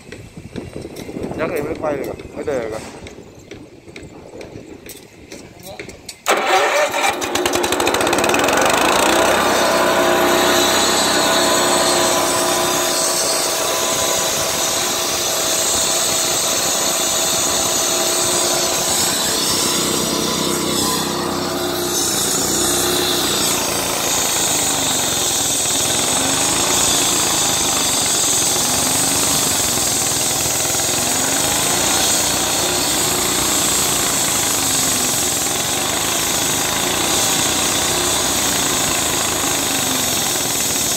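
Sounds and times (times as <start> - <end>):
concrete saw cutting concrete: 6.3 - 40.9.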